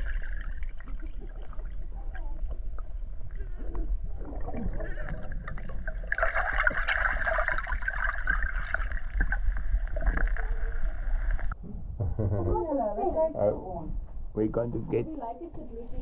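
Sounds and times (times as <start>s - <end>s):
deep underwater rumble: 0.0s - 14.3s.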